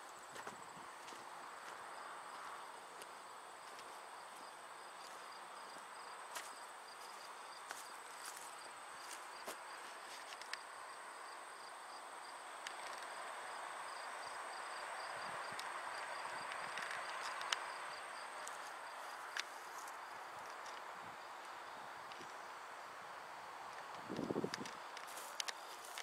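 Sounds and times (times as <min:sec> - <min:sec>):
insects chirping: 0:00.0 - 0:26.0
soft outdoor hiss: 0:00.0 - 0:26.0.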